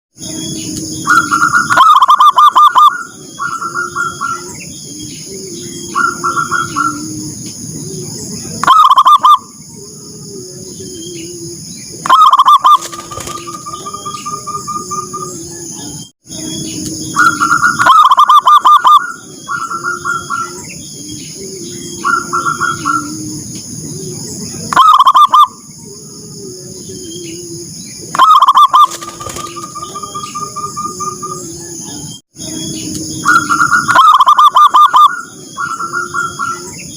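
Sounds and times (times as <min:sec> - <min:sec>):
doves cooing: 0:00.2 - 0:36.9
high-pitched background drone: 0:00.2 - 0:36.9.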